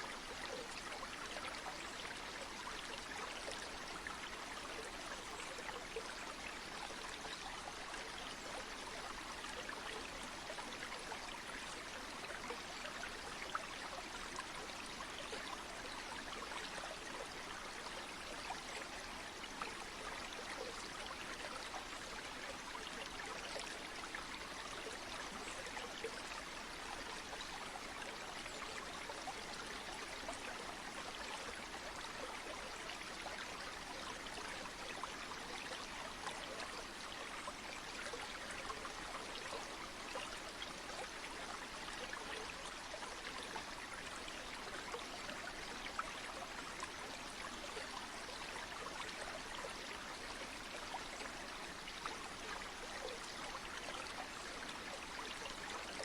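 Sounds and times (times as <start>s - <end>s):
water splashes and trickles: 0.0s - 56.0s.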